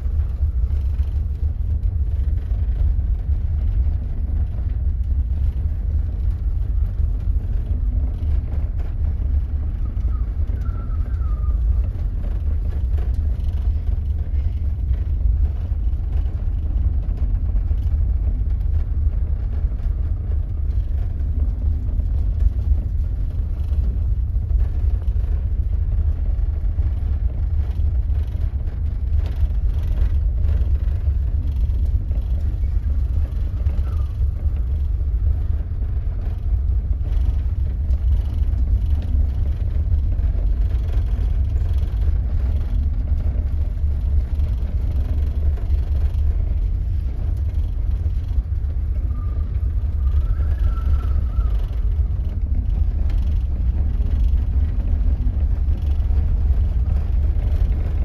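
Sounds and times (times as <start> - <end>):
strong wind buffeting microphone: 0.0 - 58.0.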